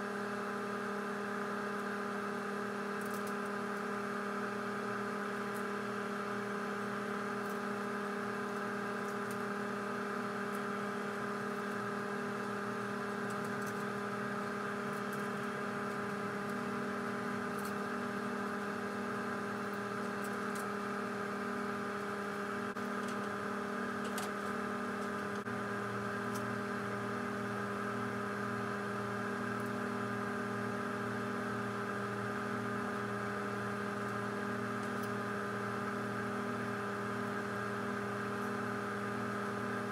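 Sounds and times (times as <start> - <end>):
motor or fan humming: 0.0 - 39.9.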